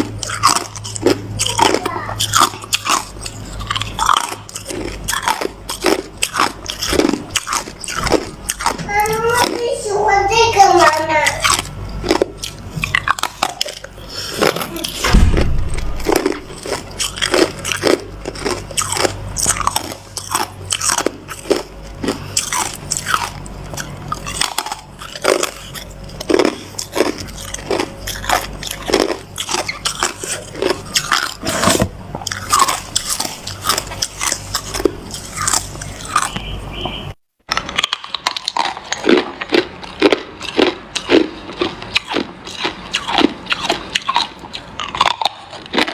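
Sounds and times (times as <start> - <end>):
ice crunching in mouth: 0.0 - 9.7, 11.4 - 36.5, 37.5 - 45.9.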